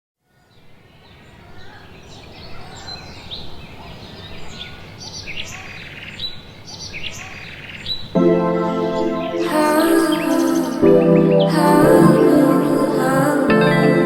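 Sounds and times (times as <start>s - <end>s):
songbirds chirping: 0.3s - 13.5s.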